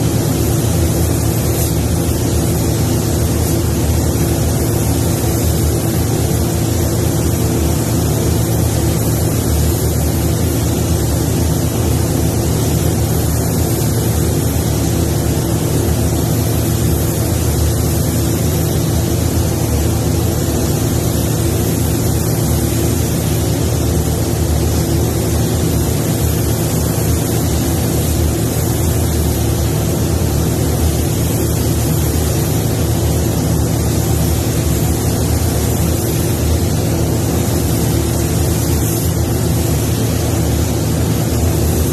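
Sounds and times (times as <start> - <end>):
ventilation fans humming: 0.0 - 41.9.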